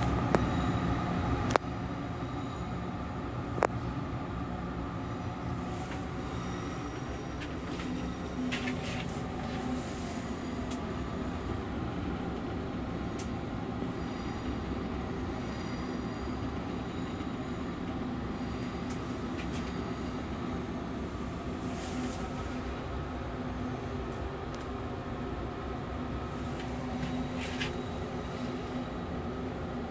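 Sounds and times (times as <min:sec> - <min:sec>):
railcar rumble and hum: 0:00.0 - 0:29.9.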